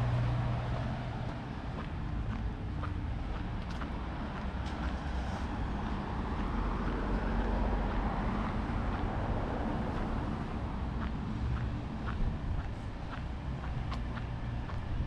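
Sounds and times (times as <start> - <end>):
car passing: 0.0 - 15.0
steady low rumble: 0.0 - 15.0
light footsteps: 0.1 - 15.0.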